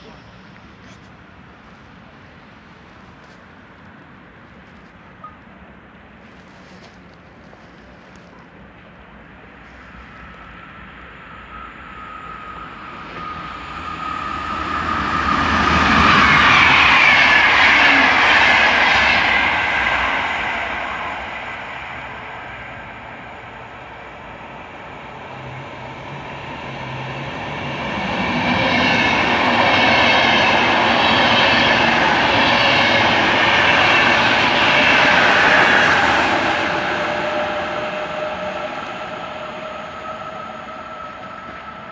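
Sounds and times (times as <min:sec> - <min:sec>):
train passing on rails: 0:00.0 - 0:41.9.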